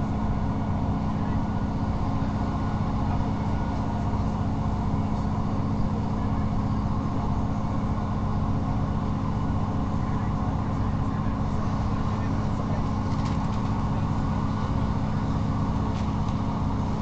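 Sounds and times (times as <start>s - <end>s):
diesel engine drone: 0.0s - 17.0s
train running gear rumble: 0.0s - 17.0s.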